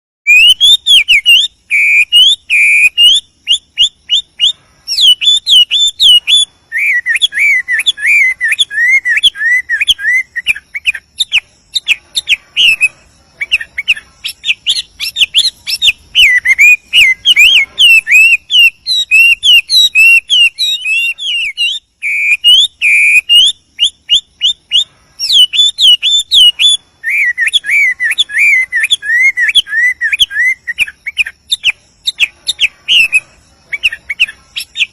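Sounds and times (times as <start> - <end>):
bird singing whistled song: 0.2 - 34.9.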